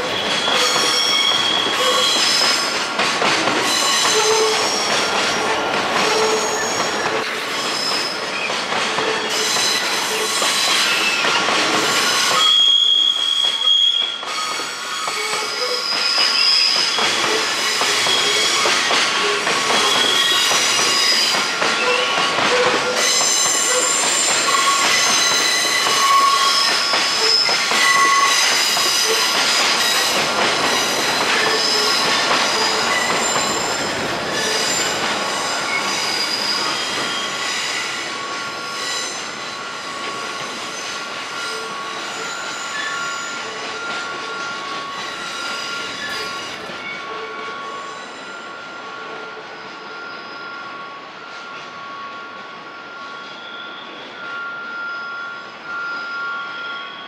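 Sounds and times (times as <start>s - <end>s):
train wheels squealing on rails: 0.0s - 57.0s.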